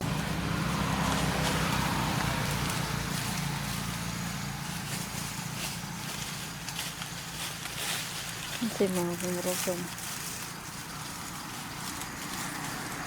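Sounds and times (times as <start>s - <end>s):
outdoor background noise: 0.0s - 13.0s
vehicle engine humming: 0.0s - 13.0s.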